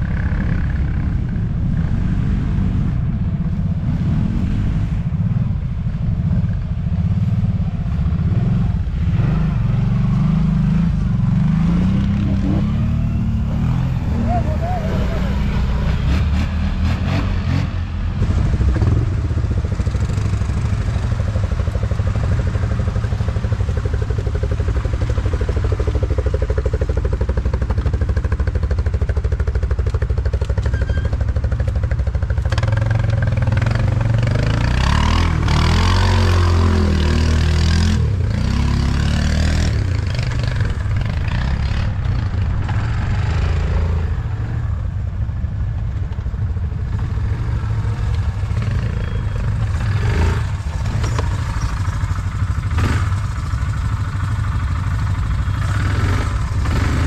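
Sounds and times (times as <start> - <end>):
atv engine revving: 0.0 - 5.0, 7.1 - 44.8, 46.8 - 57.0.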